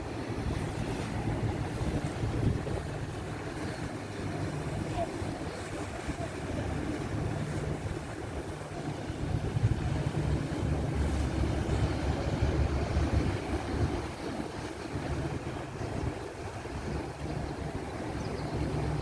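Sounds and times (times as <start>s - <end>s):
small ferry passing on water: 0.0s - 19.0s
wind buffeting microphone: 0.0s - 19.0s.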